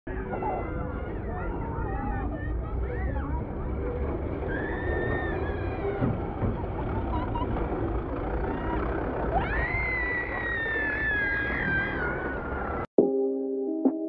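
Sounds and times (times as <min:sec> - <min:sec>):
roller slide rumbling: 0:00.2 - 0:12.9.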